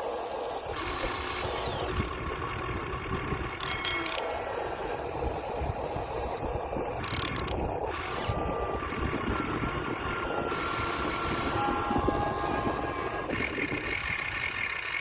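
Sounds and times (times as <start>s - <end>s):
model excavator motors whirring: 0.0s - 15.0s
thin motor whine: 0.0s - 15.0s.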